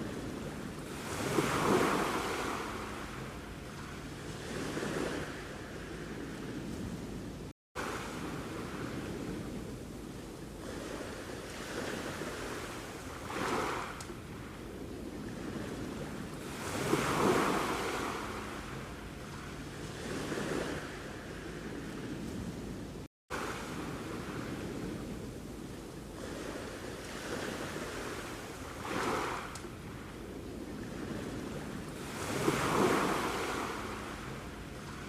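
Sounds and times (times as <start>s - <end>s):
sea waves washing on shore: 0.0s - 35.0s.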